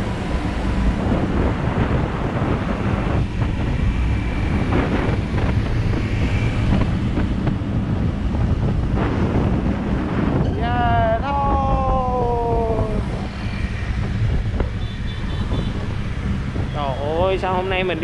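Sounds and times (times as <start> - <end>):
motorbike engine and road noise: 0.0 - 18.0
wind buffeting microphone: 0.0 - 18.0.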